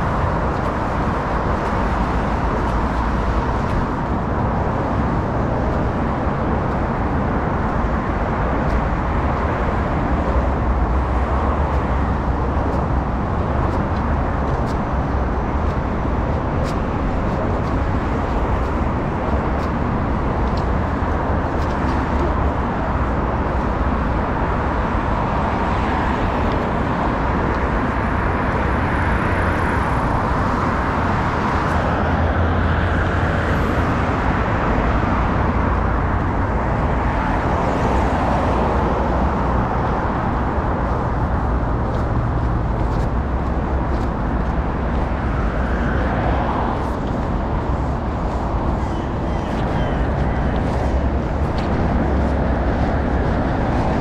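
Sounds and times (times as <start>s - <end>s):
cars passing: 0.0s - 54.0s
dense road traffic: 0.0s - 54.0s.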